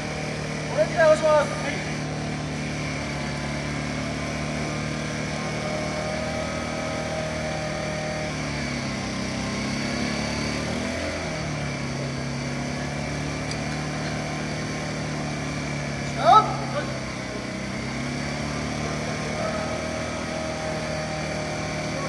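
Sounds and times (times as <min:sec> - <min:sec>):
fire truck engine running: 0:00.0 - 0:22.0.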